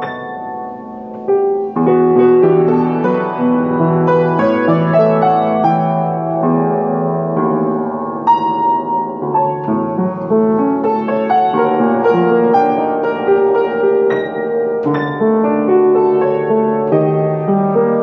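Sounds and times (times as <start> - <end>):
solo piano ballad: 0.0 - 18.0.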